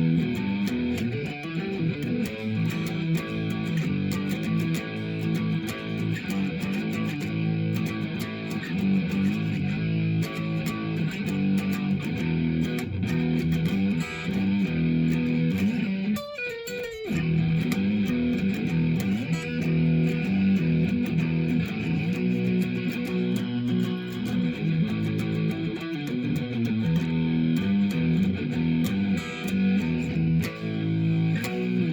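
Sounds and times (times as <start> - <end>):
electric guitar playing: 0.0 - 31.9.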